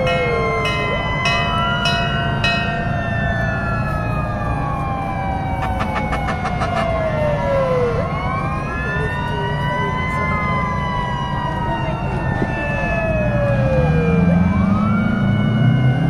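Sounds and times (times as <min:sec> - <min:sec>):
fire truck sirens wailing: 0:00.0 - 0:16.0.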